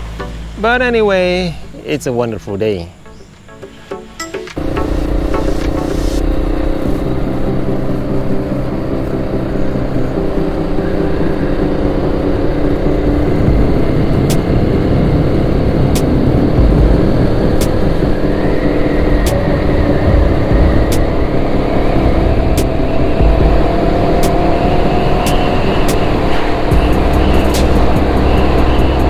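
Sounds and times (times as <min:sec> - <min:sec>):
motorcycle engine cruising: 0:03.0 - 0:29.0
wind noise on microphone: 0:05.6 - 0:29.0.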